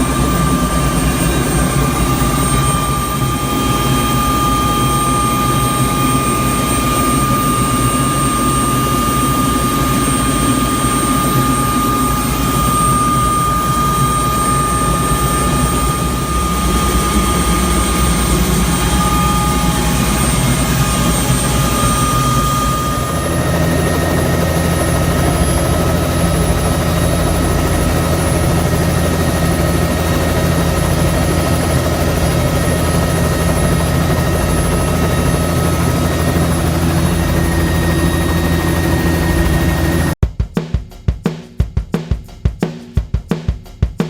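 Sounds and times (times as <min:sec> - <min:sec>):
helicopter engine and rotor: 0:00.0 - 0:40.2.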